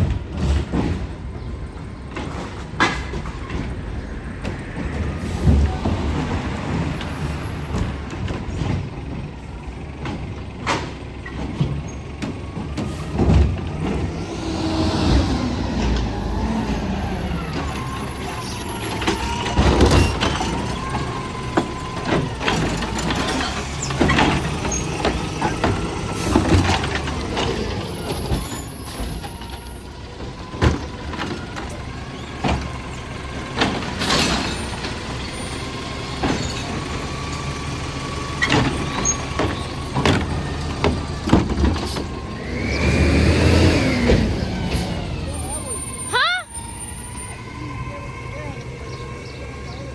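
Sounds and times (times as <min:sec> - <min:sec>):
garbage truck engine running: 0:00.0 - 0:49.9.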